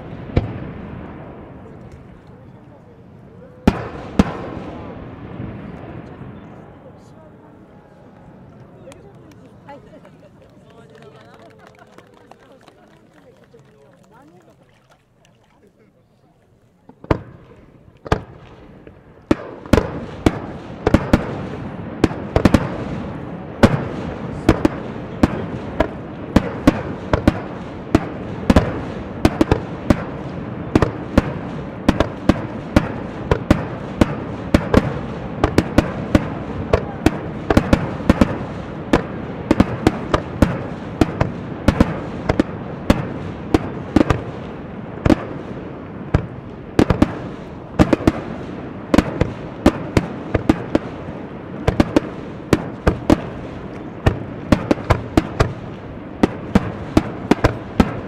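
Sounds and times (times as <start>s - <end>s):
fireworks bangs: 0.0s - 15.8s, 16.8s - 58.0s
fireworks crackling: 0.0s - 58.0s.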